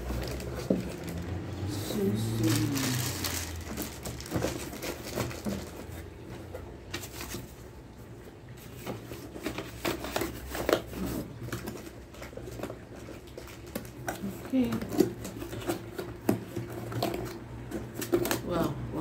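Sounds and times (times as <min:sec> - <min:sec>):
paper rustling: 0:00.0 - 0:07.7, 0:08.6 - 0:18.4.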